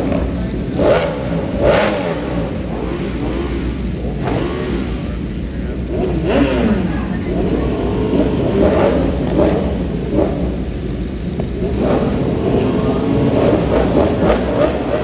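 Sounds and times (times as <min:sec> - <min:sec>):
racing motorcycles passing: 0:00.0 - 0:15.0
steady low rumble: 0:00.0 - 0:15.0.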